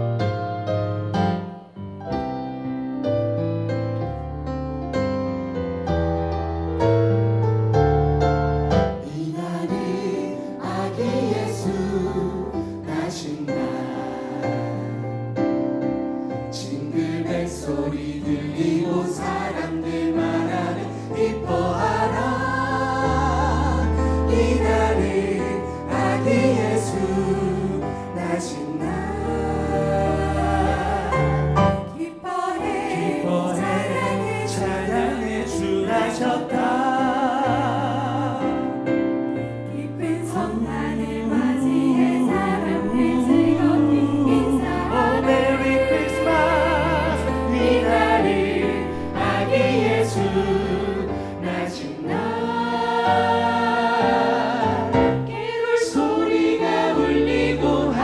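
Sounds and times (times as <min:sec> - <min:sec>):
choir singing gospel: 0:08.6 - 0:58.0.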